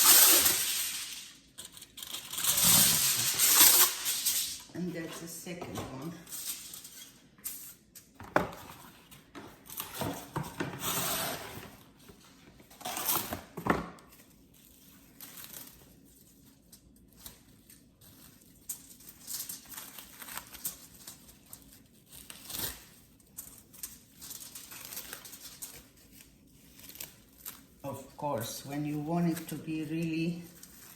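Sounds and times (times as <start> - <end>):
kitchen foil crinkling: 0.0 - 7.9, 14.0 - 30.9.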